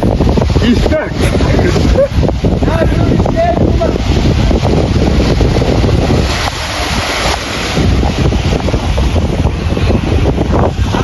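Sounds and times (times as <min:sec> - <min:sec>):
sea surf washing in: 0:00.0 - 0:11.0
wind buffeting microphone: 0:00.0 - 0:11.0.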